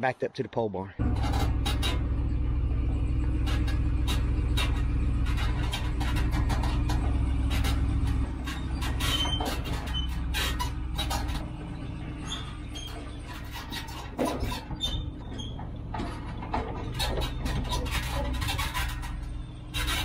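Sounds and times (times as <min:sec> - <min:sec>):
trailer rattling and knocking: 0:01.0 - 0:20.0
truck engine running: 0:01.0 - 0:20.0
brief squeak: 0:03.4 - 0:20.0.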